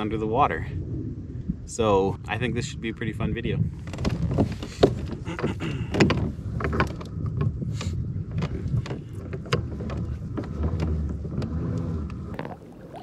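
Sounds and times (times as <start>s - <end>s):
water lapping at hull: 0.0s - 13.0s
wind rumble on microphone: 0.0s - 13.0s.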